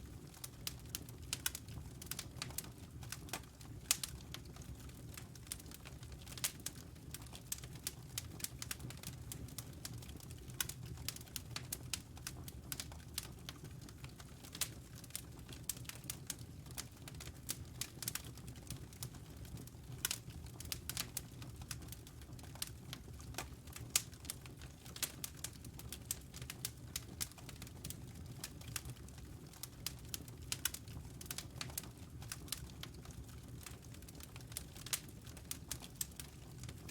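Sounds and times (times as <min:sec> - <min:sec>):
fire crackling and popping: 0:00.0 - 0:36.9
low rumble of burning logs: 0:00.0 - 0:36.9.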